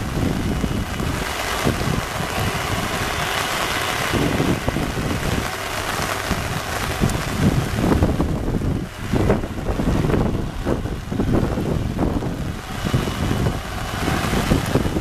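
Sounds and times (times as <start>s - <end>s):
heavy rain hissing: 0.0s - 15.0s
low rumbles: 0.0s - 15.0s.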